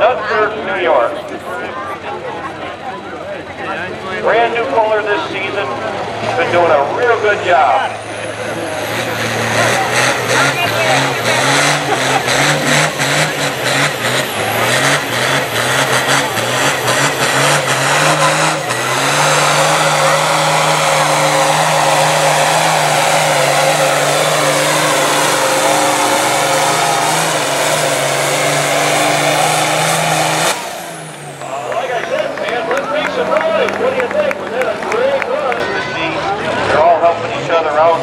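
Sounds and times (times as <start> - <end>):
high engine whine: 0.0 - 38.0
tractor engine revving: 0.0 - 38.0.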